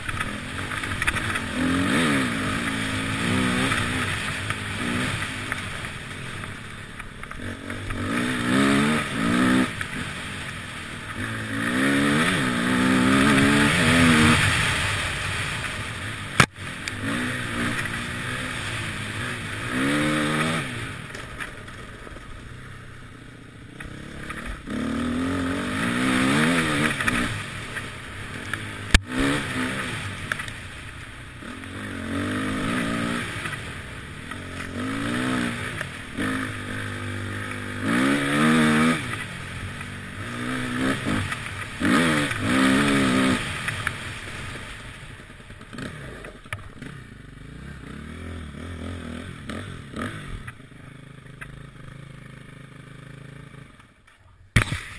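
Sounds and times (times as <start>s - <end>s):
gravel clatter: 0.0s - 48.1s, 48.7s - 54.9s
motorcycle engine revving: 0.0s - 54.9s.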